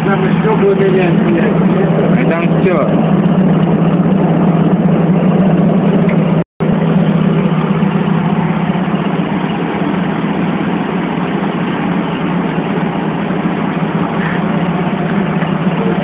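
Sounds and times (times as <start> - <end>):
metro train rumbling: 0.0 - 16.0.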